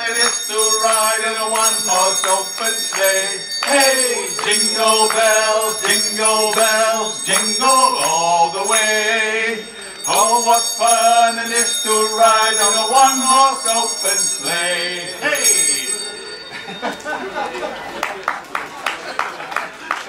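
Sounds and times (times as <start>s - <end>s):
two men singing a carol: 0.0s - 16.2s.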